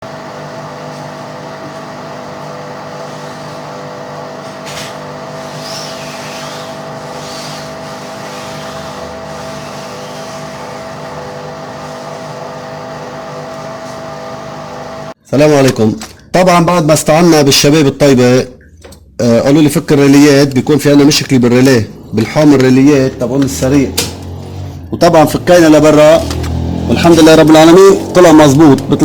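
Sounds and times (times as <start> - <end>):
washing machine motor hum: 0.0 - 15.2, 16.9 - 29.0.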